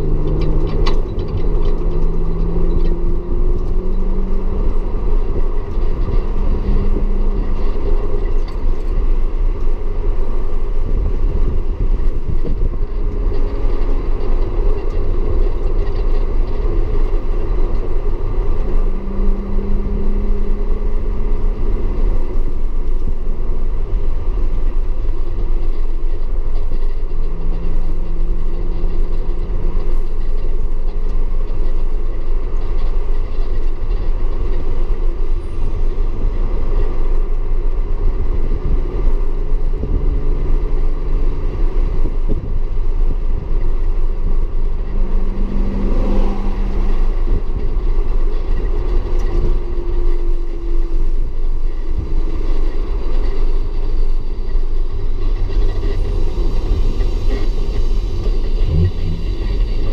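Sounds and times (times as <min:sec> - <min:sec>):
car engine running: 0:00.0 - 0:59.9
road and rain noise: 0:00.0 - 0:59.9.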